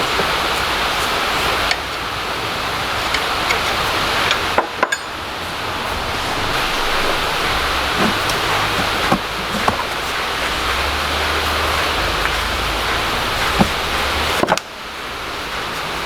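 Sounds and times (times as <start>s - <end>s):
hiss-like background noise: 0.0s - 16.0s.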